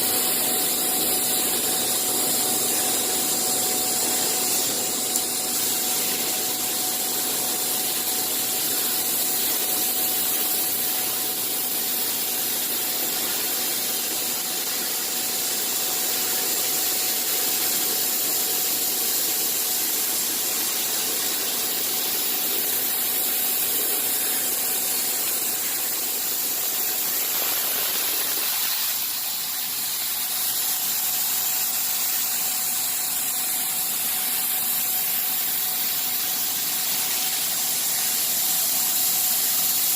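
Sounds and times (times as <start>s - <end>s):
machine hissing: 0.0s - 39.9s.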